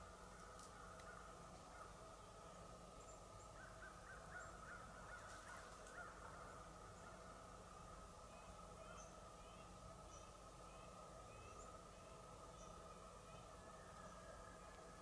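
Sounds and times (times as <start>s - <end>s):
distant bird calls: 0.0s - 15.0s
low background hum: 0.0s - 15.0s.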